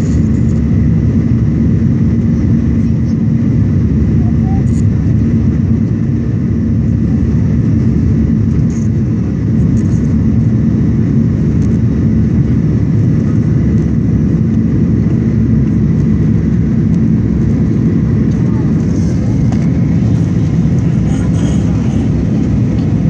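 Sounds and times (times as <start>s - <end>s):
jet engines at climb power: 0.0s - 23.0s.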